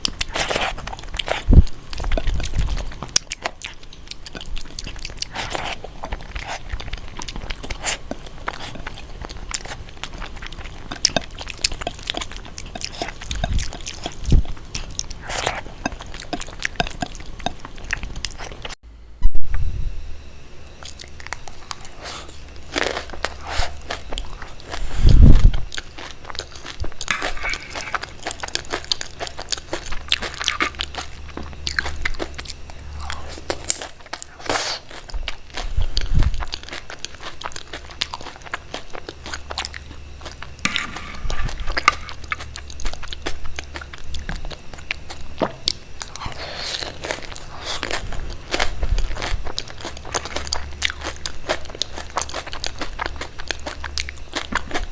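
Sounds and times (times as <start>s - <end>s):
crunchy eating and chewing: 0.0s - 18.8s, 20.6s - 54.9s.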